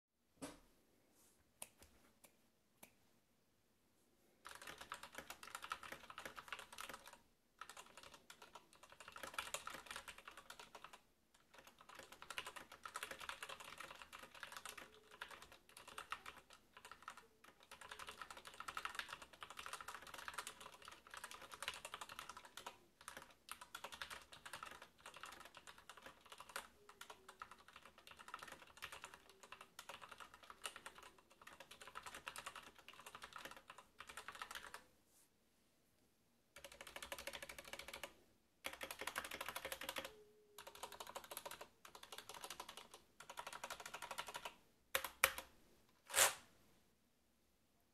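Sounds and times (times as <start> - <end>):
mechanical keyboard typing: 4.4 - 34.8, 36.6 - 45.5.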